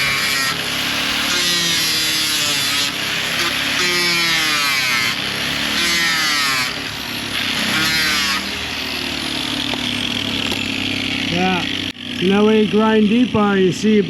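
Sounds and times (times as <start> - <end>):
power grinder cutting fiberglass: 0.0 - 14.0.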